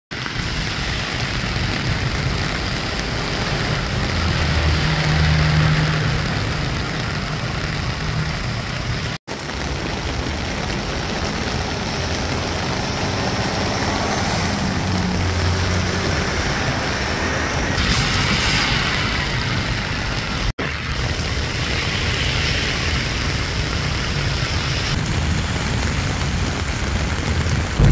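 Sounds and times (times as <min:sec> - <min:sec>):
heavy rain pouring: 0:00.1 - 0:27.9.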